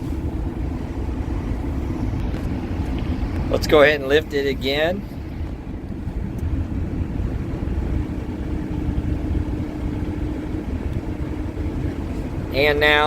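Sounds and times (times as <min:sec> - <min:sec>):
excavator diesel engine running: 0:00.0 - 0:13.0
hydraulics humming under load: 0:00.0 - 0:13.0.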